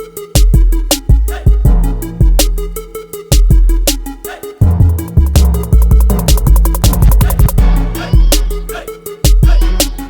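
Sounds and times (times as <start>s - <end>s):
hip-hop beat with booming bass: 0.0s - 10.0s.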